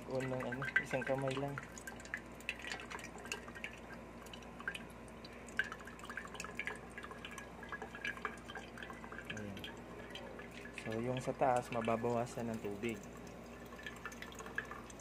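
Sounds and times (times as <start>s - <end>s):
water dripping into metal can: 0.0s - 15.0s.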